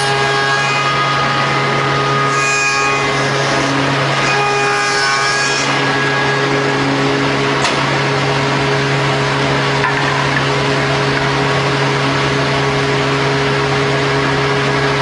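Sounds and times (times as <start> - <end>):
woodworking machine humming: 0.0 - 15.0.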